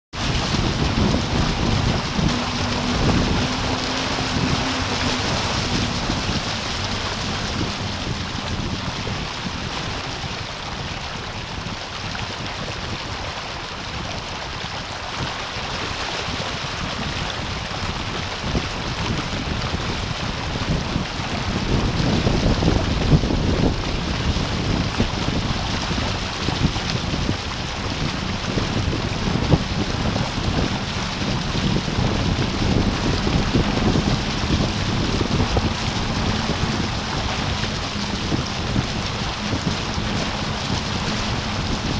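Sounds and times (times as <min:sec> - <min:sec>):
water rushing along hull: 0:00.1 - 0:41.9
wind buffeting microphone: 0:00.1 - 0:41.9.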